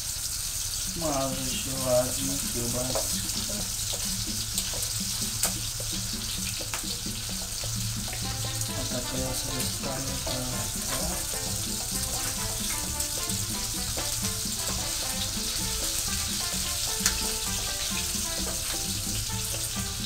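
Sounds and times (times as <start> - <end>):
sausage sizzling in a pan: 0.0 - 20.0.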